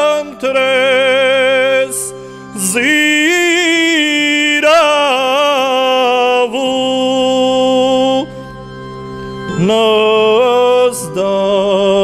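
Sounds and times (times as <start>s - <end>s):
man chanting a hymn: 0.0s - 8.3s, 9.5s - 12.0s.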